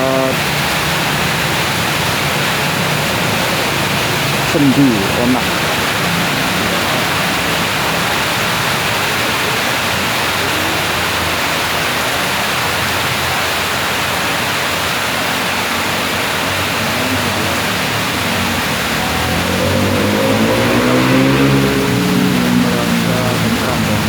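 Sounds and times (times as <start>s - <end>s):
faint vehicle engine: 0.0s - 24.0s
heavy rain falling: 0.0s - 24.0s.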